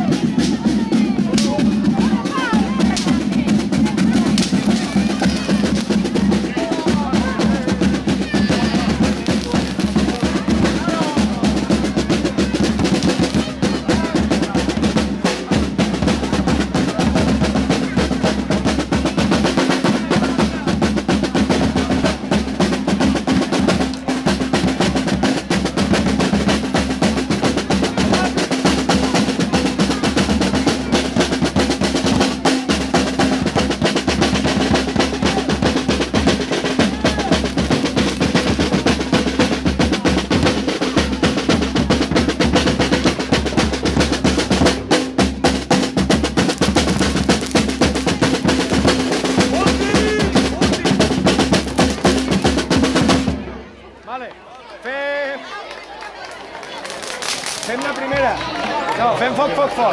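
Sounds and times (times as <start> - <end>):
deep drum tone: 0.0 - 53.6
marching drums playing fast rhythms: 0.0 - 53.8.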